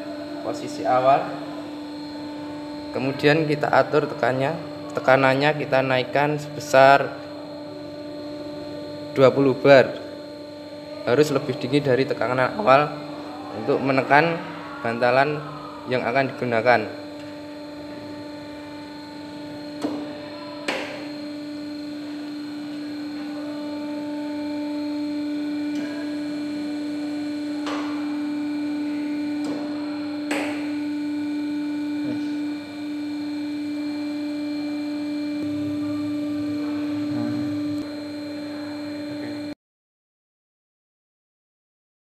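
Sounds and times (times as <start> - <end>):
electric motor and pump whine: 0.0 - 39.6.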